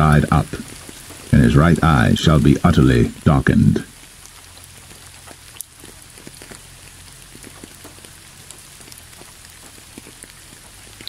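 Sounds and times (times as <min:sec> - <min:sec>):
rain drops ticking: 0:00.0 - 0:11.0.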